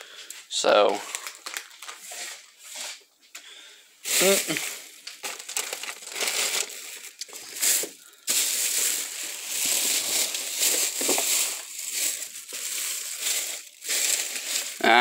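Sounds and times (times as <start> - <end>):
plastic bag rustling and crinkling: 0.7 - 3.0, 4.0 - 15.0.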